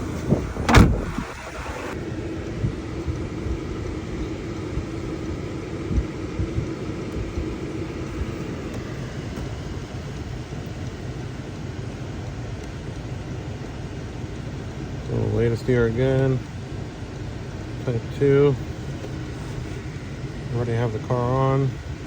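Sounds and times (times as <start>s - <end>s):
faint constant tone: 0.0s - 22.0s
steady low hum: 0.0s - 22.0s.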